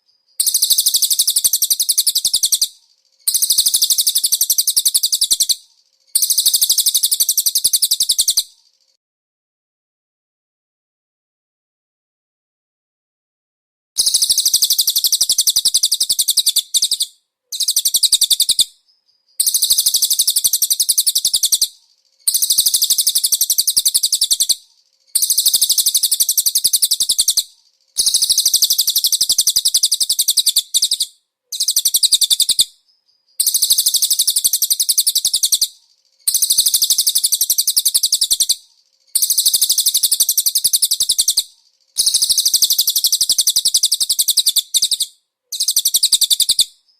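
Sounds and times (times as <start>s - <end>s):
songbird twittering: 0.0s - 8.8s, 14.0s - 46.9s.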